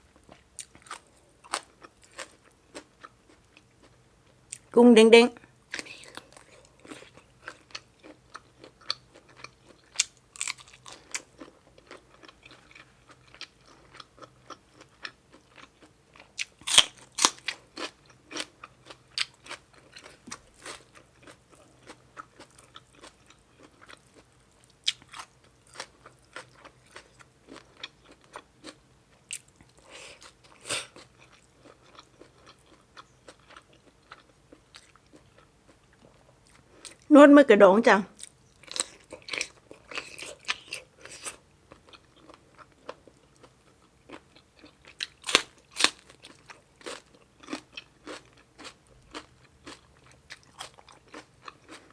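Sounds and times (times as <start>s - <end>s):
person chewing with wet crunches: 0.0s - 4.7s, 5.5s - 37.1s, 38.2s - 51.9s.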